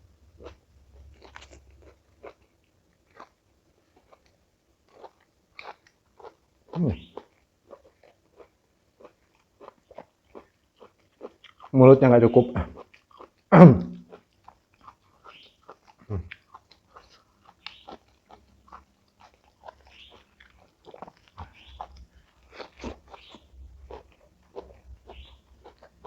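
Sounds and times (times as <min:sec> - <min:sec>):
chewing crunchy food: 0:00.0 - 0:26.0.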